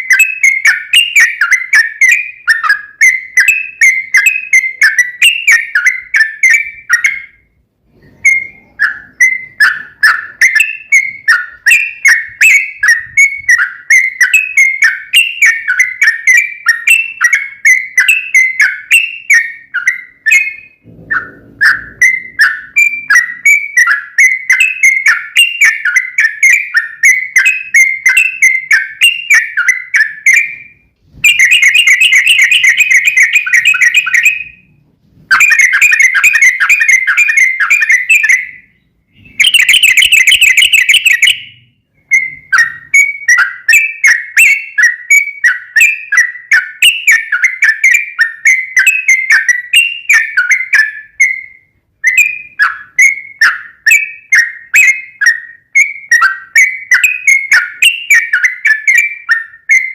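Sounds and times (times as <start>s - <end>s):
bird chattering song: 0.0s - 34.7s, 35.3s - 59.9s.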